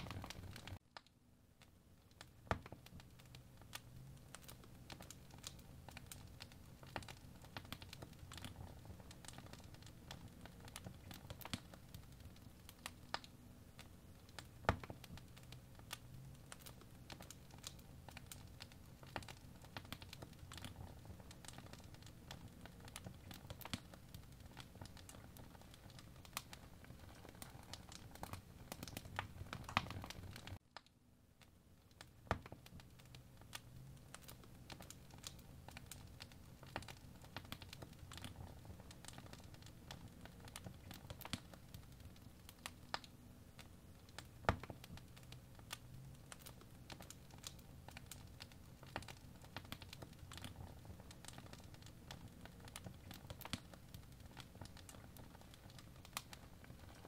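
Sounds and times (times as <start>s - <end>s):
low steady background rumble: 0.0s - 57.0s
soft clicks and crackles: 0.0s - 57.0s.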